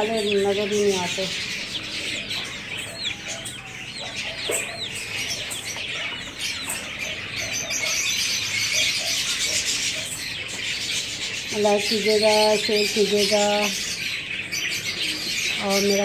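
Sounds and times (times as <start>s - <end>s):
cage birds twittering: 0.0s - 16.0s
chicks peeping: 0.0s - 16.0s.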